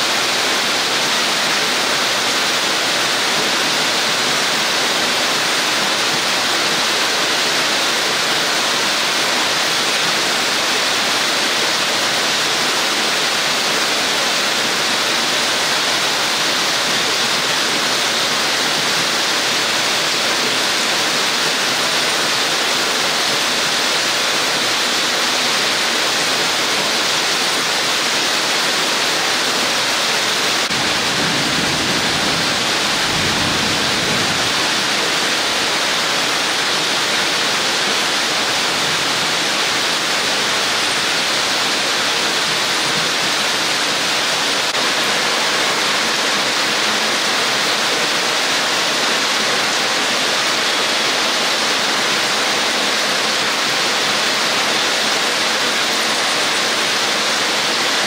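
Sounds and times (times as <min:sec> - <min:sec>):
rain and falling water: 0:00.0 - 0:58.0.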